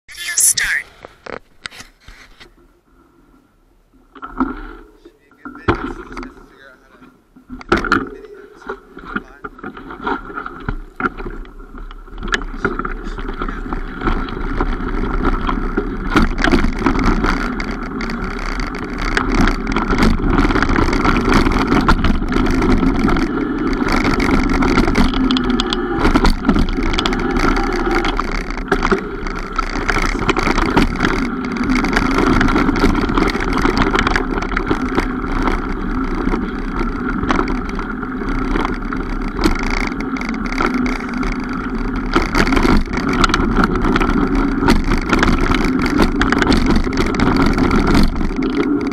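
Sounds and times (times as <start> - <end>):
bike tyres rolling on trail: 1.0 - 48.9
bike clicks and rattles: 7.5 - 48.9.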